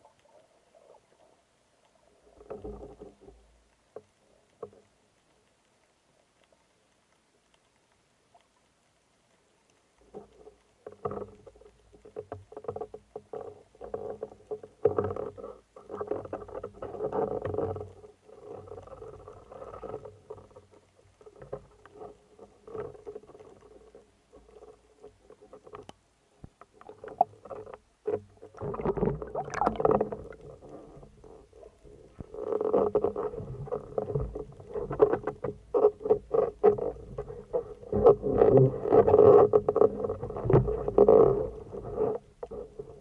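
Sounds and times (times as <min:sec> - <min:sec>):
faint steady hum: 0:00.0 - 0:43.0
underwater crackling clicks: 0:00.0 - 0:43.0.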